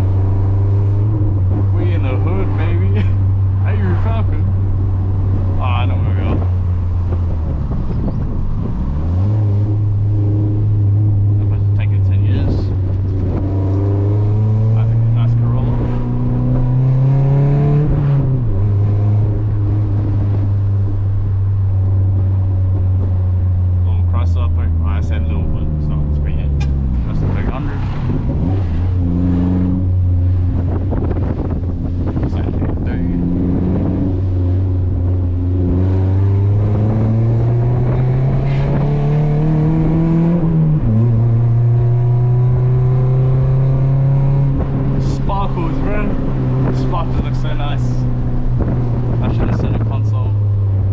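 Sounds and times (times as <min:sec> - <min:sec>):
car engine drone: 0:00.0 - 0:50.9.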